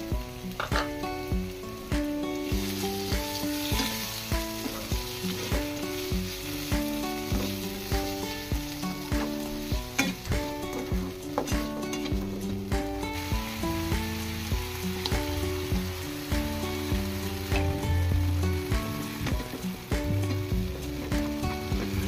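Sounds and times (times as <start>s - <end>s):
background music with a beat: 0.0s - 22.0s
vegetables sizzling in a frying pan: 0.0s - 22.0s.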